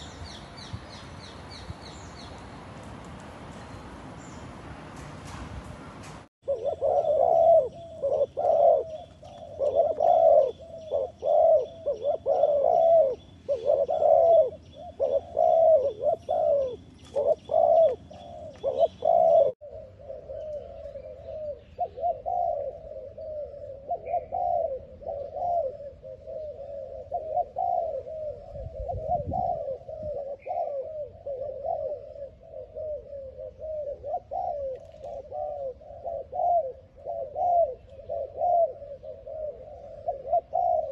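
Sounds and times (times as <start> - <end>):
doves cooing: 6.4 - 40.9.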